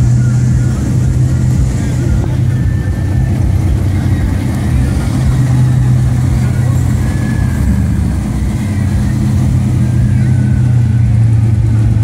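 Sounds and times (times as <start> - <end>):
car engines rumbling past: 0.0 - 12.0.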